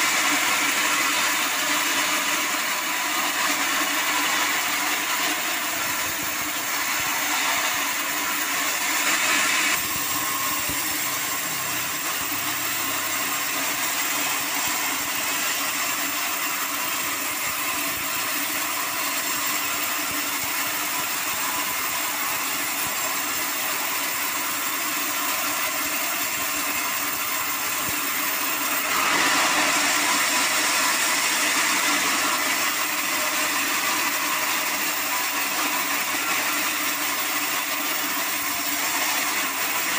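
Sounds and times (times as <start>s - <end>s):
band saw cutting wood: 0.0s - 39.9s
sawmill drive: 0.0s - 39.9s.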